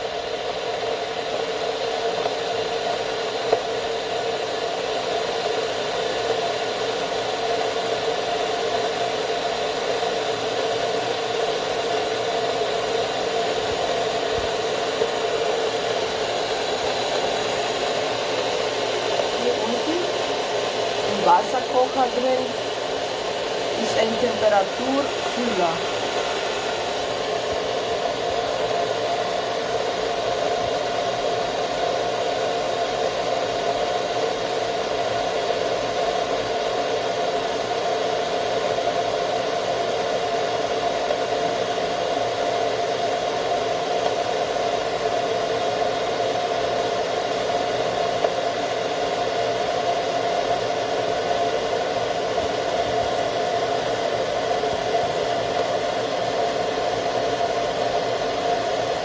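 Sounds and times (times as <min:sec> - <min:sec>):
electric kettle heating water: 0:00.0 - 0:59.0.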